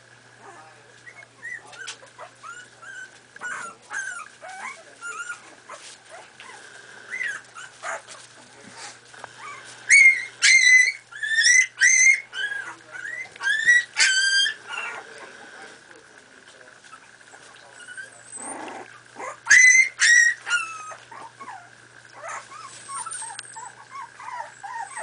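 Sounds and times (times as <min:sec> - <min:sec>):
puppies yelping: 0:00.4 - 0:08.3, 0:09.3 - 0:15.4, 0:16.9 - 0:25.0
puppies whimpering and squeaking: 0:00.4 - 0:15.4, 0:16.9 - 0:25.0.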